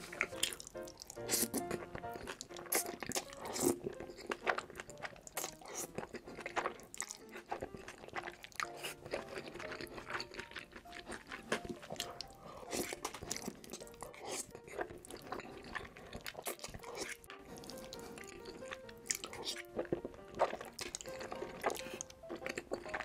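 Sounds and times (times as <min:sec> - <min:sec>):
slurping and chewing noodles: 0:00.0 - 0:23.0
soft background music: 0:00.0 - 0:23.0.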